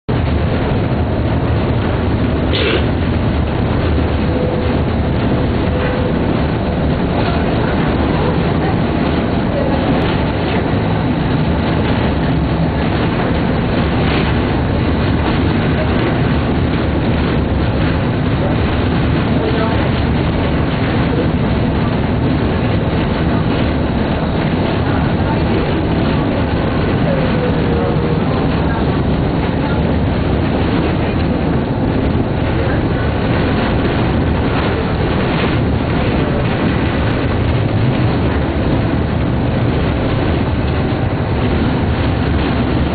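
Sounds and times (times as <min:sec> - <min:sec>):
tram wheels rumbling on rails: 0:00.0 - 0:42.9.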